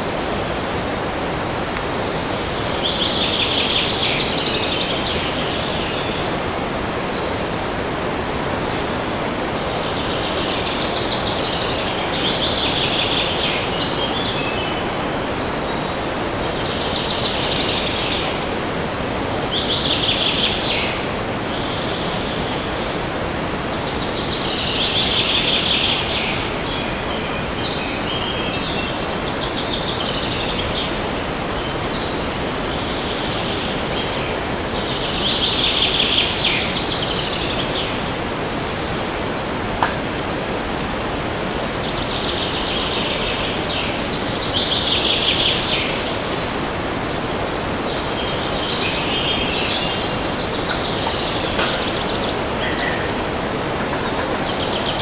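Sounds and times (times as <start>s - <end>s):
songbird singing: 0.0s - 55.0s
wind in trees: 0.0s - 55.0s.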